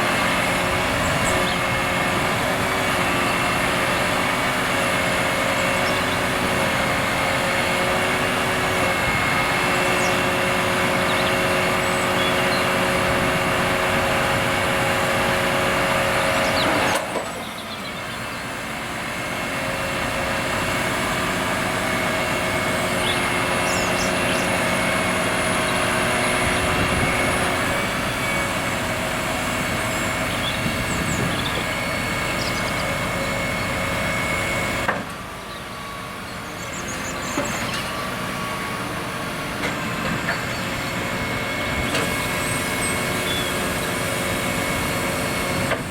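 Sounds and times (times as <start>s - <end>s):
lorry engine running: 0.0s - 45.9s.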